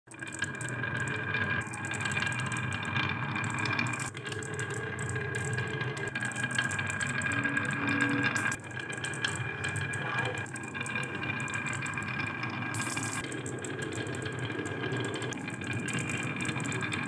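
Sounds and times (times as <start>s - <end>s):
marbles clicking: 0.1s - 17.0s
marbles rolling on wood: 0.1s - 17.0s.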